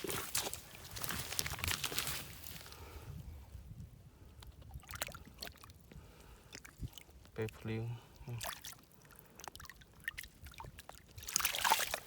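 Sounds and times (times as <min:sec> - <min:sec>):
water splashing and sloshing: 0:00.0 - 0:02.7, 0:04.4 - 0:12.0.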